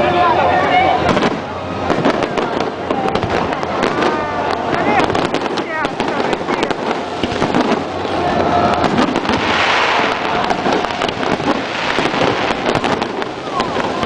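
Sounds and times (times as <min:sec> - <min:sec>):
fireworks hissing and crackling: 0:00.7 - 0:14.0
fireworks bangs and pops: 0:01.1 - 0:14.0.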